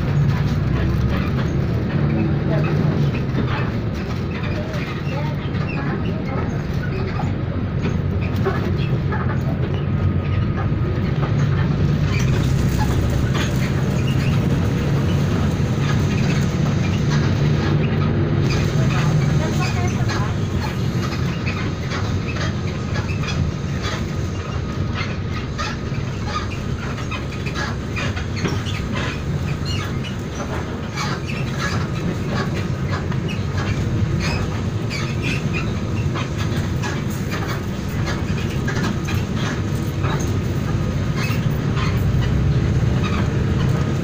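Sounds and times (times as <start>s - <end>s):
vehicle rumble from inside cabin: 0.0s - 44.0s.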